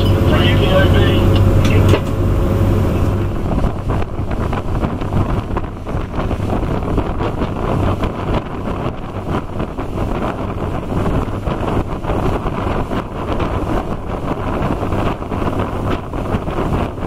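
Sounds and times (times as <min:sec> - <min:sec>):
boat engine droning: 0:00.0 - 0:17.0
water rushing: 0:00.0 - 0:17.0
wind buffeting microphone: 0:00.0 - 0:17.0.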